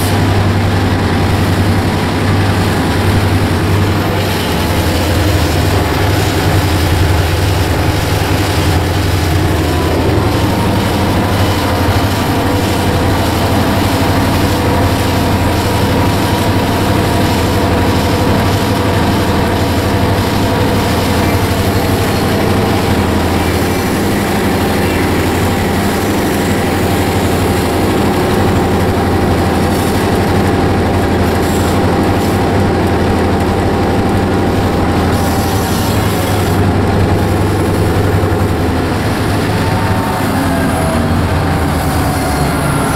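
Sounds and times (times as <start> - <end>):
diesel locomotive engine drone: 0.0 - 42.9.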